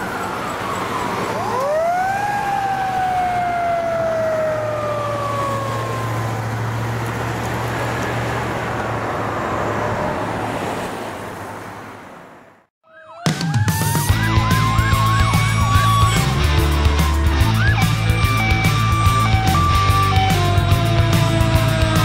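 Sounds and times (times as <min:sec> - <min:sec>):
fire truck siren wailing: 0:00.0 - 0:10.8, 0:12.9 - 0:22.0
low drone of traffic: 0:00.0 - 0:12.7, 0:14.1 - 0:22.0.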